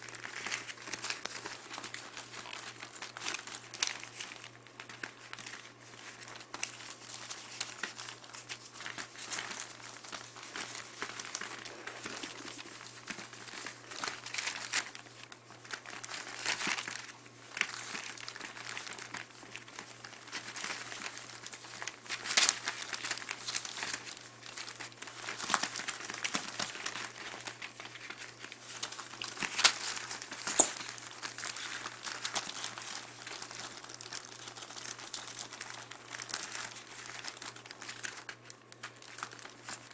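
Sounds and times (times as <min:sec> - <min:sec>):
newspaper crinkling and rustling: 0:00.0 - 0:39.9.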